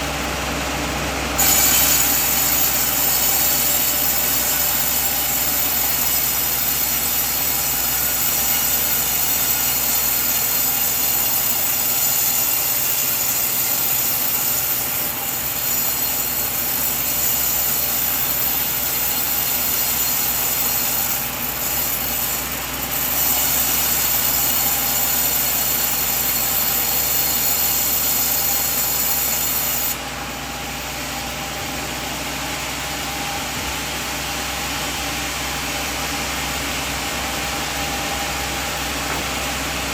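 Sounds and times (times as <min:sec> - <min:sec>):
band saw running: 0:00.0 - 0:39.9
saw cutting log hiss: 0:01.4 - 0:39.9.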